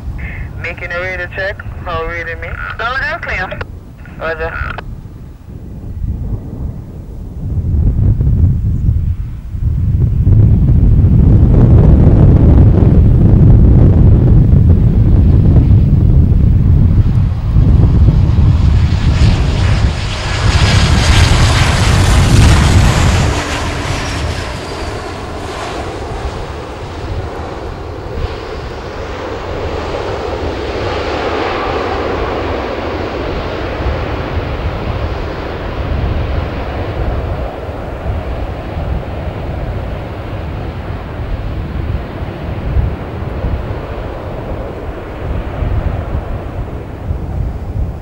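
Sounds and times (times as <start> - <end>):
jet engine reverse thrust rush: 0.0 - 5.0, 6.2 - 48.0
jet engine rumble and whine: 0.0 - 48.0
wind buffeting microphone: 0.0 - 48.0.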